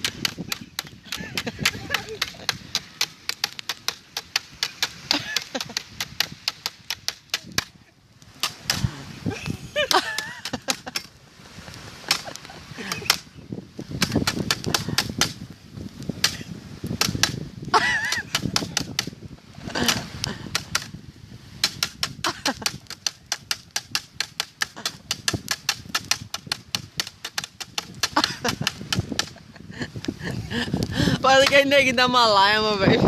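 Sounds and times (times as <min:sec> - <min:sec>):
bonfire crackling and popping: 0:00.0 - 0:32.1.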